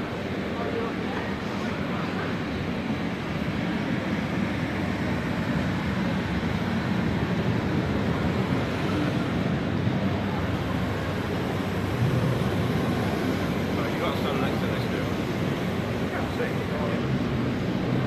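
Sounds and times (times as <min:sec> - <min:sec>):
distant voices: 0:00.0 - 0:18.0.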